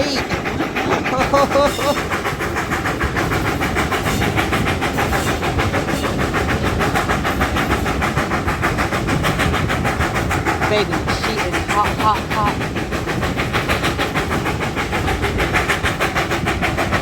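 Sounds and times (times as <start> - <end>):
steam locomotive exhaust beats: 0.0 - 17.0
train rumble: 0.0 - 17.0.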